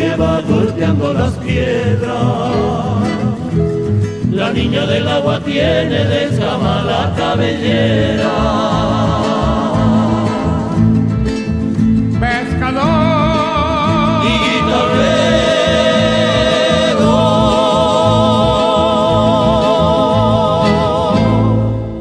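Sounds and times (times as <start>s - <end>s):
folk music with bass and guitar: 0.0s - 22.0s.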